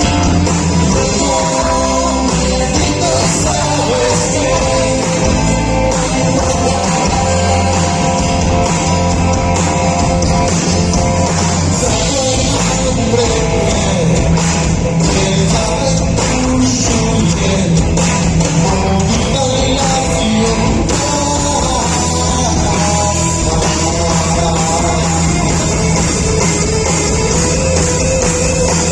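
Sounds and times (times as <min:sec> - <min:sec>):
person singing: 0:00.0 - 0:09.2, 0:11.6 - 0:28.9
live rock band playing: 0:00.0 - 0:28.9.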